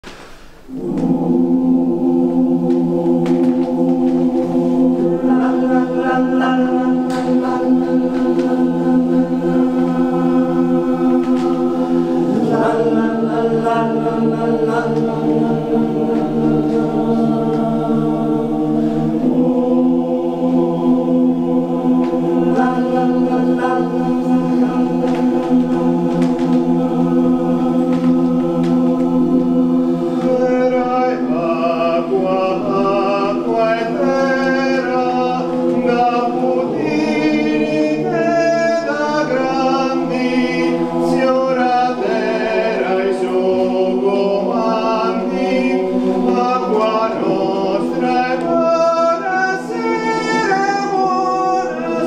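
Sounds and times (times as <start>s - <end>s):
male choir singing: 0.7s - 52.0s.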